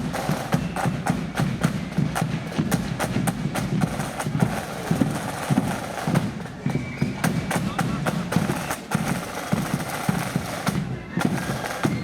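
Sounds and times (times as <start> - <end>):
snare drum strokes: 0.0 - 12.0.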